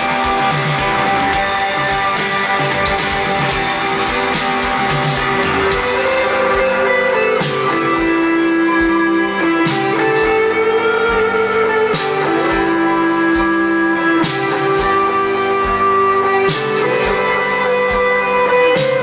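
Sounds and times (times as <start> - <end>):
drums: 0.0 - 19.0
electric guitars ringing: 0.0 - 19.0.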